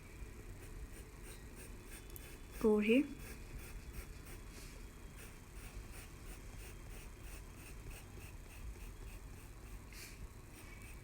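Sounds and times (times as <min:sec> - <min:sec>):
pencil scratching on paper: 0:00.6 - 0:11.0.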